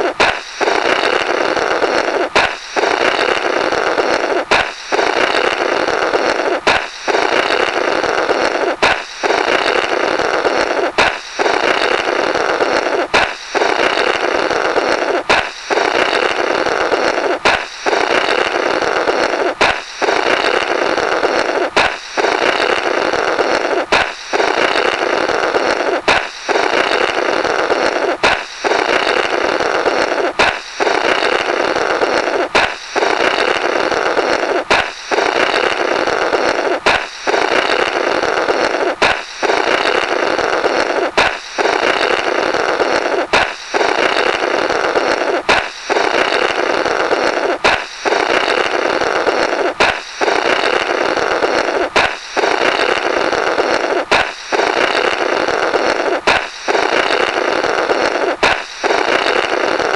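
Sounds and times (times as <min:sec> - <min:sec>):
balloon popping: 0:00.0 - 0:59.9
sputtering blowing through balloon: 0:00.0 - 0:59.9.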